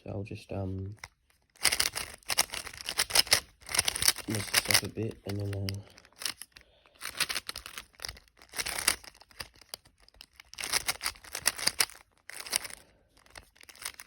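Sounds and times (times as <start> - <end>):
puzzle cube clicking and rattling: 0.8 - 14.0.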